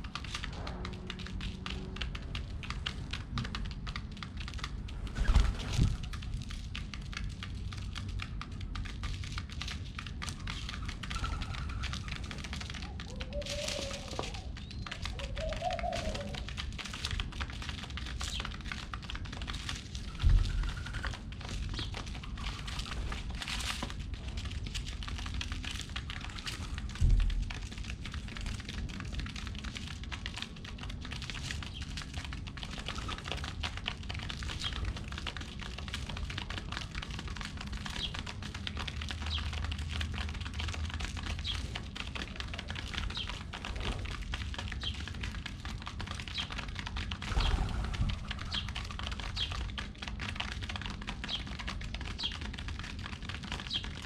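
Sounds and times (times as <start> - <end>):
pigeons pecking at seeds: 0.0 - 54.0.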